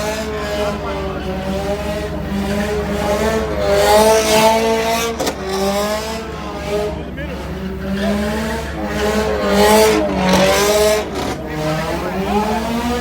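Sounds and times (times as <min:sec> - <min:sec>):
car engine at high revs: 0:00.0 - 0:13.0
tyres squealing: 0:00.0 - 0:13.0.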